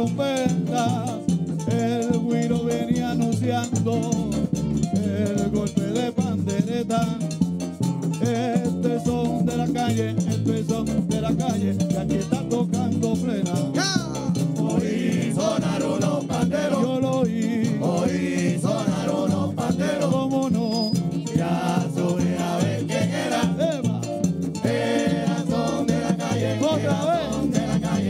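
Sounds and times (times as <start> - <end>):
men singing into microphones: 0.0 - 7.4, 8.1 - 28.0
frame drums beating: 0.0 - 28.0.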